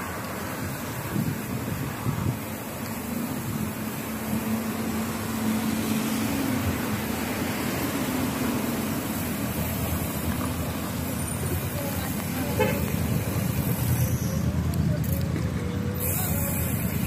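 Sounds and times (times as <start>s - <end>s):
road noise from cars: 0.0s - 17.0s.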